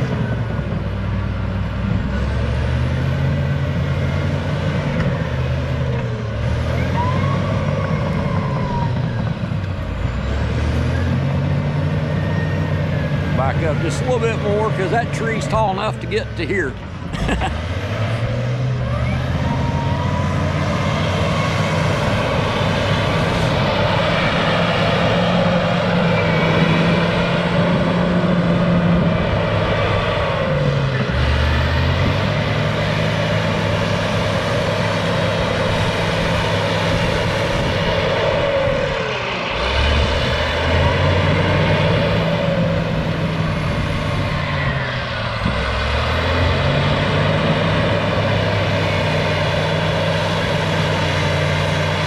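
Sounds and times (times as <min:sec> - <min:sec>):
bulldozer diesel engine under load: 0:00.0 - 0:52.0.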